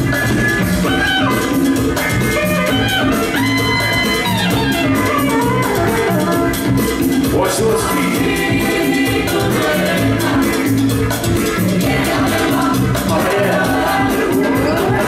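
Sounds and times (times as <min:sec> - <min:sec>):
breakbeat music over sound system: 0:00.0 - 0:15.0.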